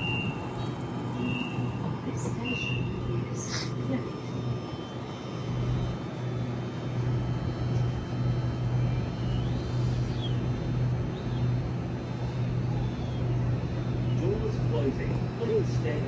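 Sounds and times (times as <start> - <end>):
train equipment low hum: 0.0 - 16.0.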